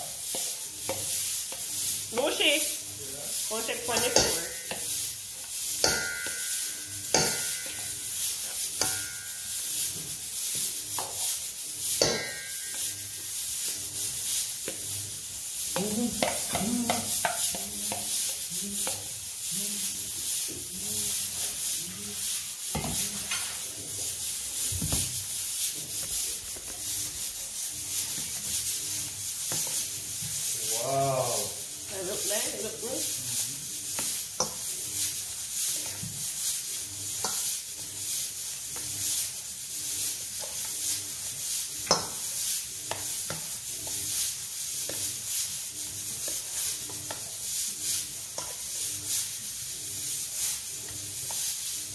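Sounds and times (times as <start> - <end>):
steady hiss: 0.0 - 51.9
knocks and scrapes on metal bowl: 0.3 - 2.8, 3.5 - 15.0, 15.7 - 25.3, 27.8 - 30.6, 31.6 - 49.4.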